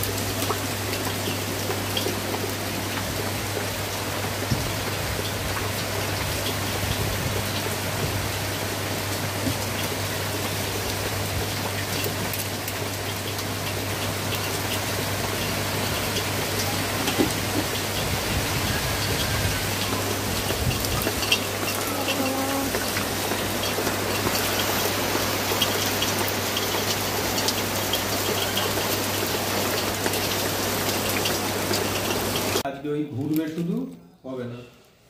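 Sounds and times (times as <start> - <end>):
heavy rain falling: 0.0 - 32.6
raindrops ticking on surfaces: 0.0 - 32.7.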